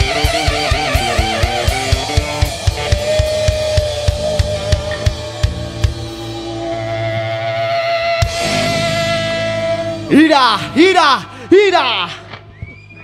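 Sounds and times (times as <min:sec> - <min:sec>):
cymbals: 0:00.0 - 0:10.9
sustained guitar note: 0:00.0 - 0:11.6
live rock band playing: 0:00.0 - 0:12.4.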